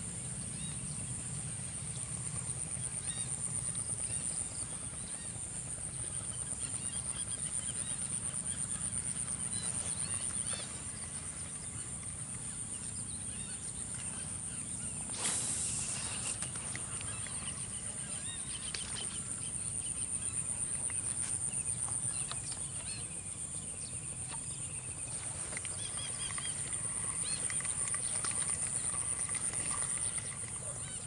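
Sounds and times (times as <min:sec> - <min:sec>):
insect trill: 0:00.0 - 0:31.0.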